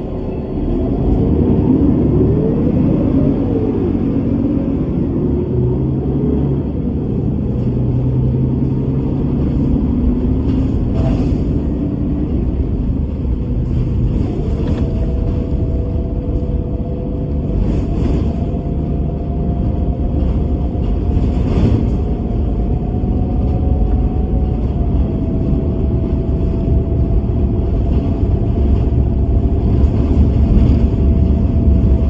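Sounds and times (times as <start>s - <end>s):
bus engine rumbling: 0.0s - 32.0s.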